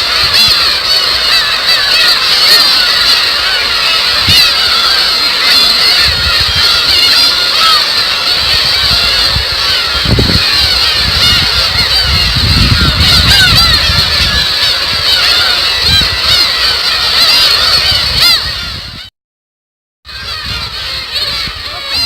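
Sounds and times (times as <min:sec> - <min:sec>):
gulls calling: 0:00.0 - 0:19.1, 0:20.1 - 0:22.0.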